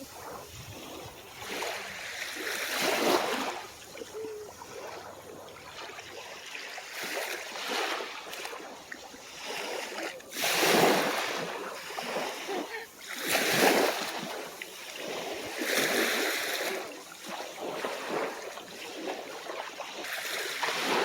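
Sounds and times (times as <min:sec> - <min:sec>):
small waves washing onto shore: 0:00.0 - 0:21.0.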